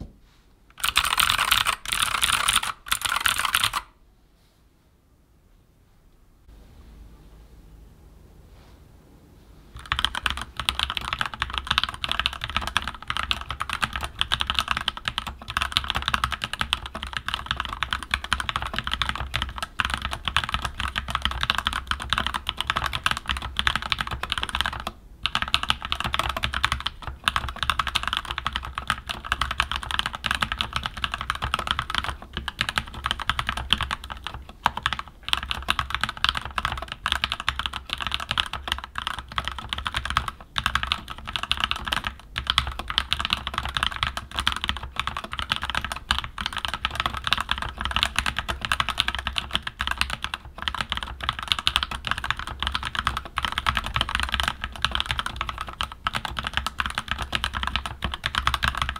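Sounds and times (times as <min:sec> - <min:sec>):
mechanical keyboard typing: 0:00.7 - 0:03.9, 0:09.8 - 0:58.9.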